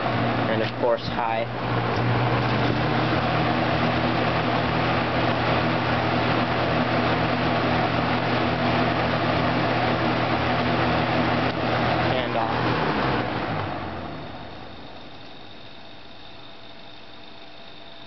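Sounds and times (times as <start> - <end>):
box fan running: 0.0 - 18.0.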